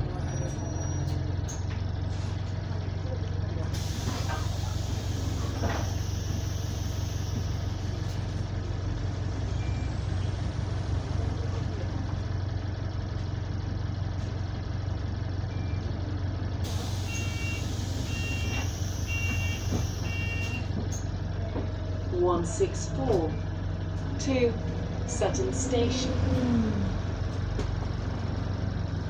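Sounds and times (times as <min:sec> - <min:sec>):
bus engine droning: 0:00.0 - 0:29.0.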